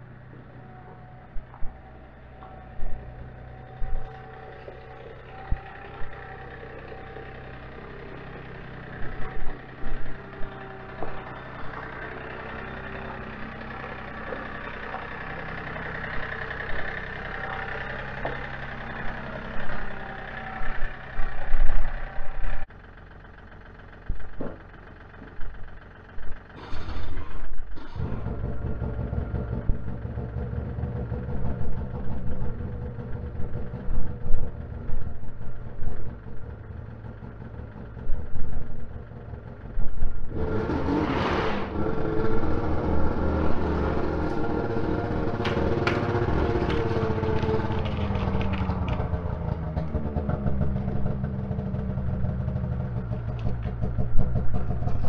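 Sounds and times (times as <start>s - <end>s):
snowmobile engine idling: 0.0s - 41.0s, 41.7s - 55.0s
tractor engine running: 0.0s - 55.0s.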